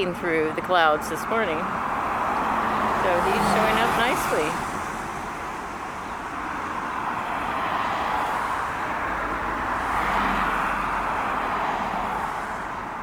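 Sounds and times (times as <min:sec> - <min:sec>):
passing cars hissing: 0:01.8 - 0:13.0.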